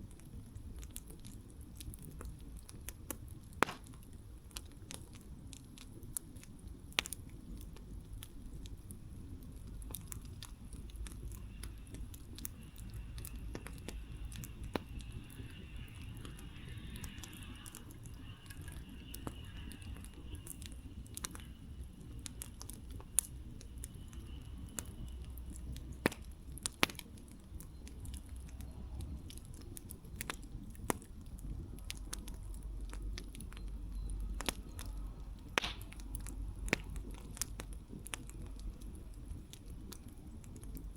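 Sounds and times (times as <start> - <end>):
campfire crackling: 0.0 - 40.9
sharp pops of burning wood: 0.7 - 40.9.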